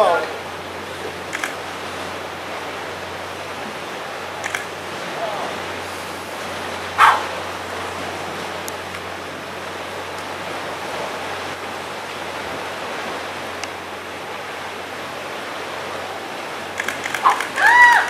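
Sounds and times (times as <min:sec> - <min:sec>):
sea: 0:00.0 - 0:18.0
wind: 0:00.0 - 0:18.0.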